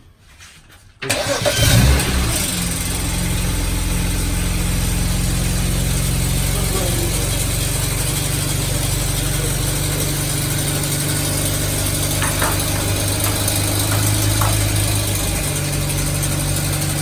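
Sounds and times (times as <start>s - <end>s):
car engine idling: 1.1s - 17.0s.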